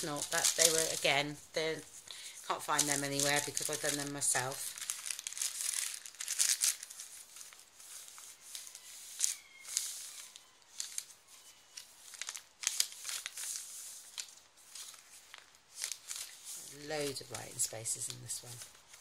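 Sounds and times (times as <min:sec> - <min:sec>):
paper pages rustling: 0:00.0 - 0:19.0.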